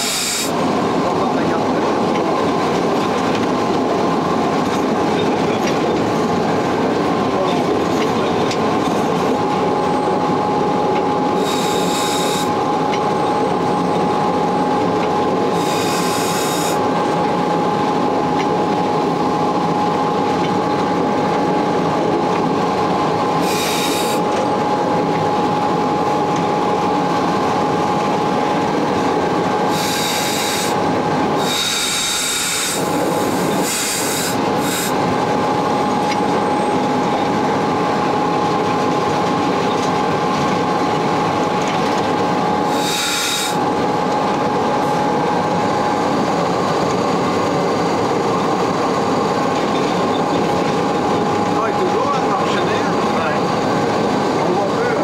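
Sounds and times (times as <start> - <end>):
constant electric hum: 0.0 - 55.0.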